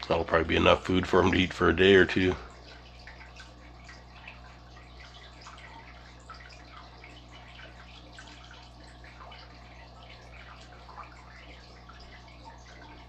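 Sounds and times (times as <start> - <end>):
steady low hum: 0.0 - 13.0
water drips and bubble pops: 2.5 - 13.0.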